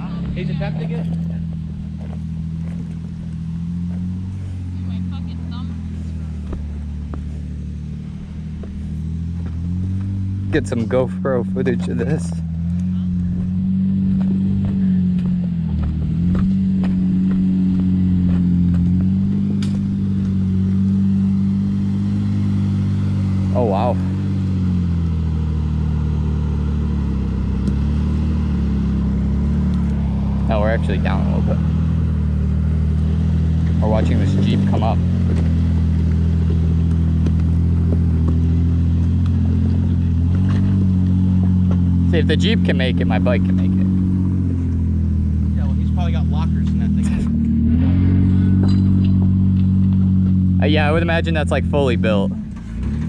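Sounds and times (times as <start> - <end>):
car engine running at low revs: 0.0 - 53.0.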